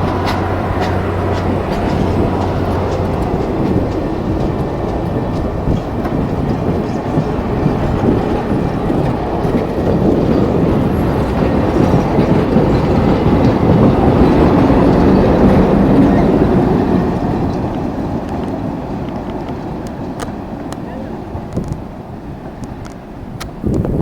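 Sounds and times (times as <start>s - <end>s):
train rumbling past: 0.0s - 24.0s
wheels clattering on rails: 0.0s - 24.0s.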